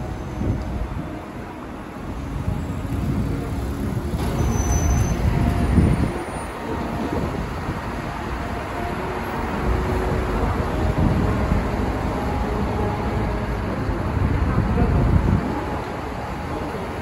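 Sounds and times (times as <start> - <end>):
road vehicles rumbling: 0.0 - 17.0.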